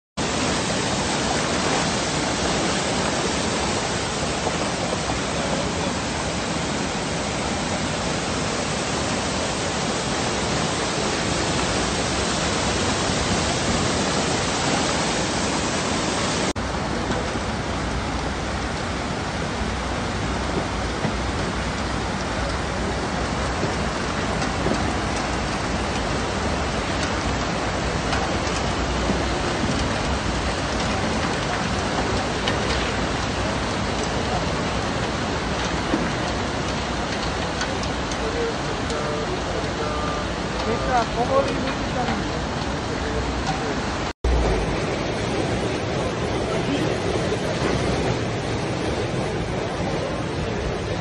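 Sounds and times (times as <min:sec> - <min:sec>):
floodwater rushing: 0:00.2 - 0:51.0.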